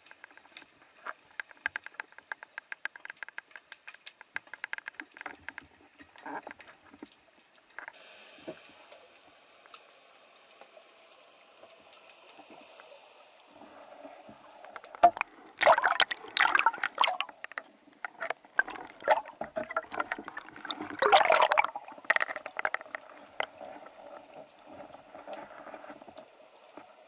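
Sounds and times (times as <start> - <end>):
faint steady hiss: 0.0 - 27.0
underwater clicking and crackling: 0.0 - 27.0.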